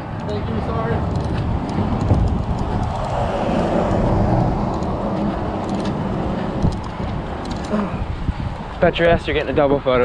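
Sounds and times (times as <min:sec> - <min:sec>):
vehicle passing with a rush: 0:00.0 - 0:09.0
low steady traffic rumble: 0:00.0 - 0:10.0.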